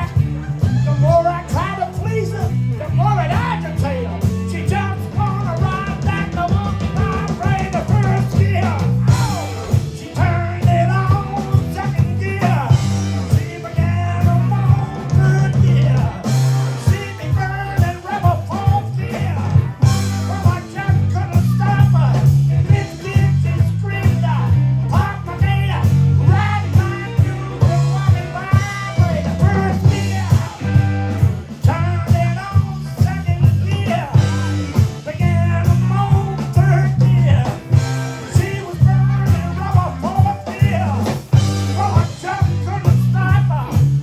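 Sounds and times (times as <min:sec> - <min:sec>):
drums: 0:00.0 - 0:44.0
lead guitar: 0:00.0 - 0:44.0
walking bass line: 0:00.0 - 0:44.0.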